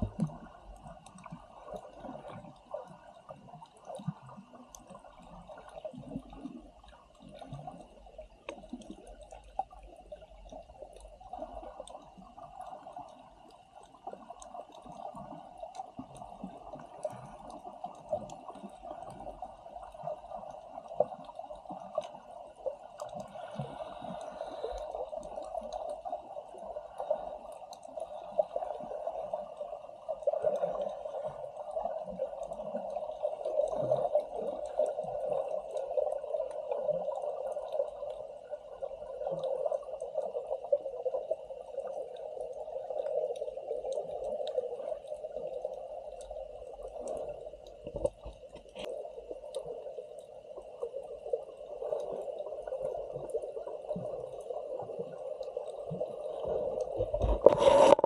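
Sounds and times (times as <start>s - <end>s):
muffled water rushing: 0.0s - 13.5s, 14.1s - 58.0s.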